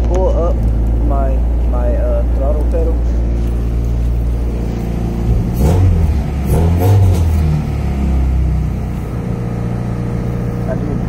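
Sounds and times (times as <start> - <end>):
car engine revving: 0.4 - 11.0.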